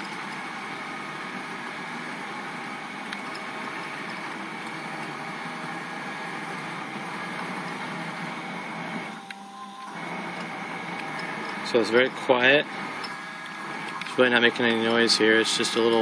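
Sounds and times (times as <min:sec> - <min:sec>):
servo motor hum with whining: 0:00.0 - 0:16.0.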